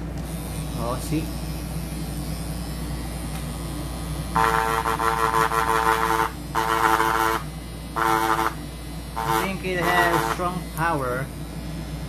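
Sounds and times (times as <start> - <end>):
tattoo pen motor buzzing: 0.0 - 12.0.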